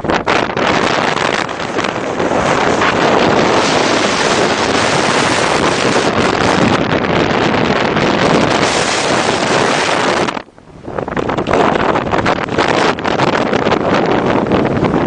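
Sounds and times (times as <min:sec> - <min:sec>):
blizzard wind roaring: 0:00.0 - 0:15.0.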